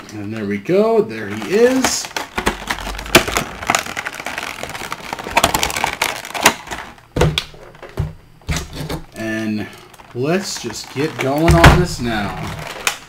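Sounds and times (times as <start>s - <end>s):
plastic packaging crackling: 0.0s - 13.0s.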